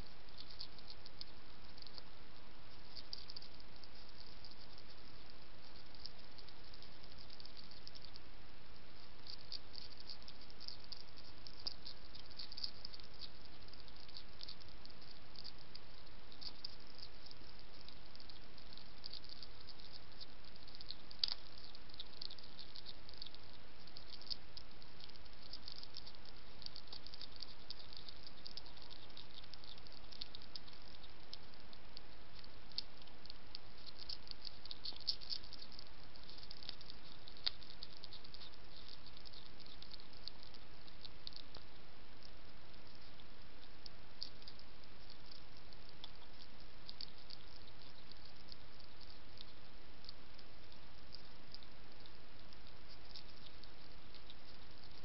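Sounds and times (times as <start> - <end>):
steady hiss: 0.0 - 55.0
hedgehog crunching biscuits: 0.3 - 2.1, 2.7 - 8.3, 9.0 - 55.0.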